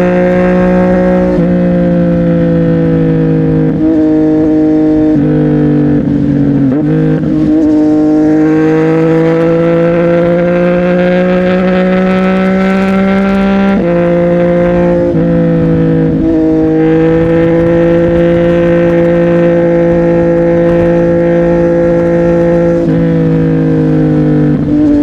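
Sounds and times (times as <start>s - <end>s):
motorcycle engine revving under load: 0.0s - 25.0s.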